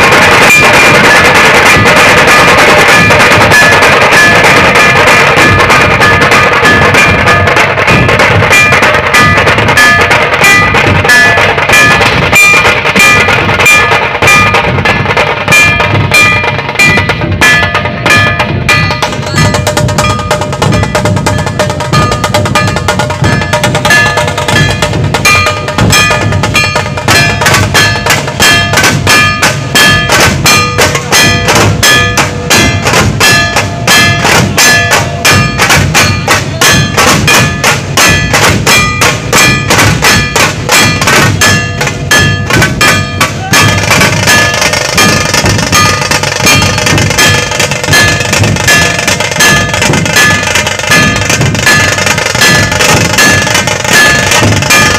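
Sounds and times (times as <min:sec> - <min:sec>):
barrel drums beating: 0:00.0 - 0:54.9
hand cymbals ringing: 0:00.0 - 0:54.9
sharp snare drums: 0:00.0 - 0:54.9.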